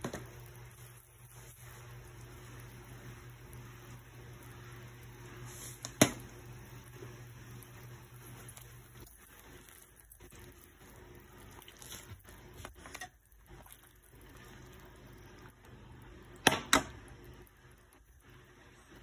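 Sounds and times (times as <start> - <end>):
broth simmering in a pot: 0.0 - 19.0.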